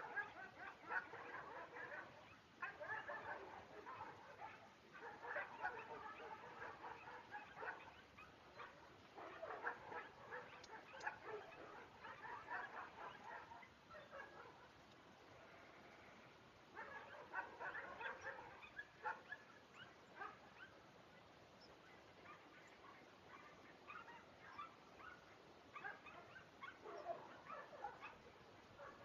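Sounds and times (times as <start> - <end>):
dogs barking and yipping: 0.0 - 14.8, 16.7 - 20.8, 21.6 - 29.0.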